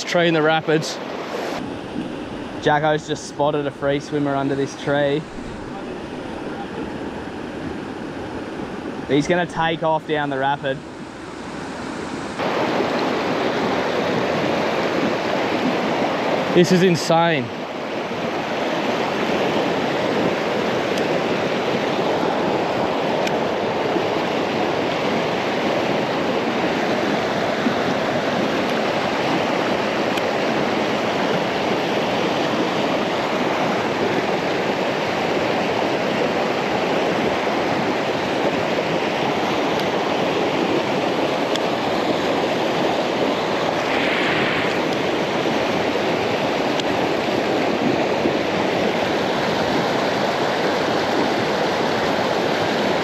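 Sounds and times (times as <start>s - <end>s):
river rapids rushing over rocks: 2.4s - 53.0s.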